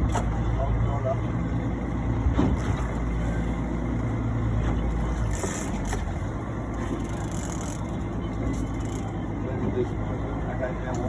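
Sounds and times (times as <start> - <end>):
motorboat engine hum: 0.0 - 11.0
wind: 0.0 - 11.0.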